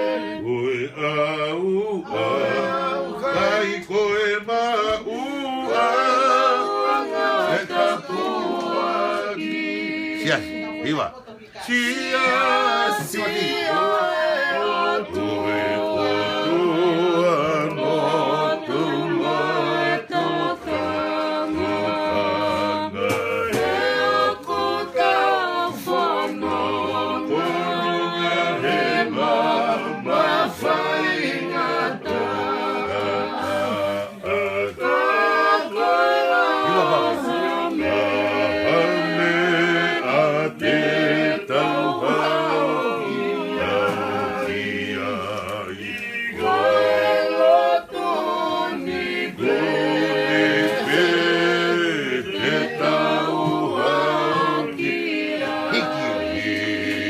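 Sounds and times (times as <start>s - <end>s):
acoustic guitar: 0.0s - 57.0s
voices singing in harmony: 0.0s - 57.0s.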